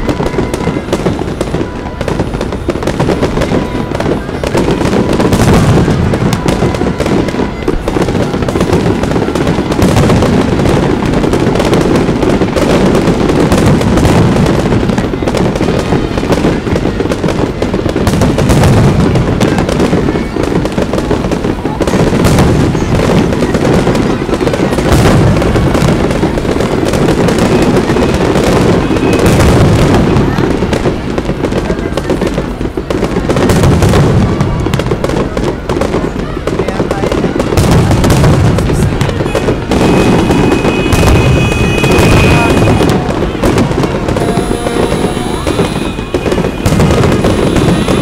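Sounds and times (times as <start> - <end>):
fireworks booming and crackling: 0.0 - 48.0.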